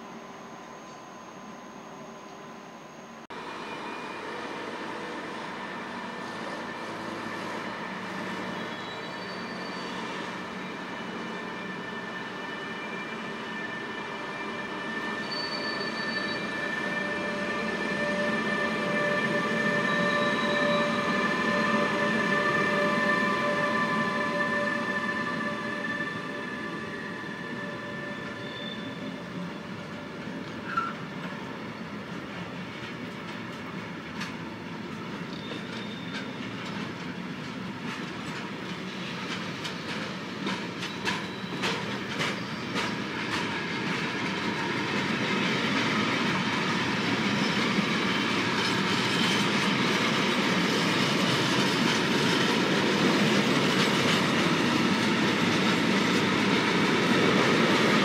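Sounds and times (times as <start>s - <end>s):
freight train rumbling past: 3.3s - 58.0s.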